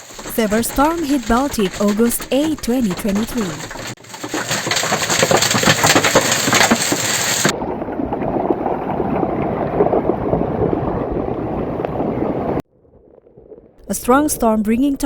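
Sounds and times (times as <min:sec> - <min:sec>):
heavy rain pelting hard surfaces: 0:00.0 - 0:12.6.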